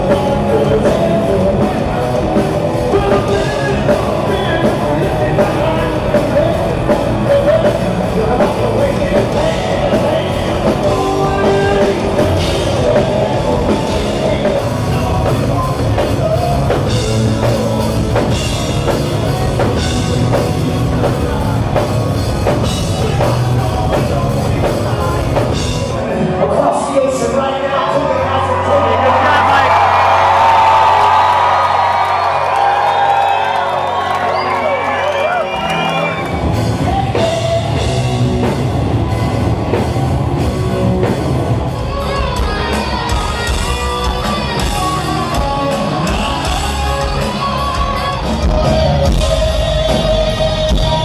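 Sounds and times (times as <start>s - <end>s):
drum kit: 0.0s - 26.4s, 35.2s - 51.0s
electric guitars: 0.0s - 51.0s
male lead singer: 0.0s - 51.0s.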